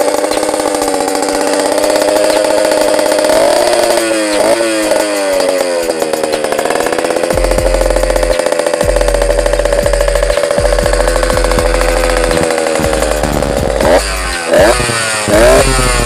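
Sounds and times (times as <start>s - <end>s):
two-stroke engine at high revs: 0.0s - 16.0s.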